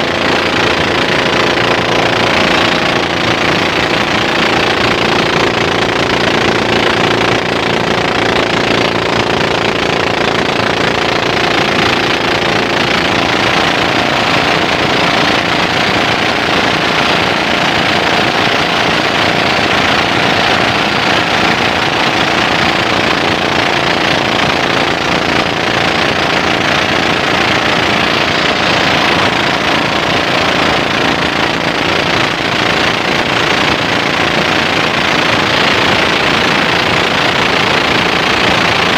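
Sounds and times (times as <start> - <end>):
small boat engine running: 0.0 - 38.9
water rushing along hull: 0.0 - 38.9.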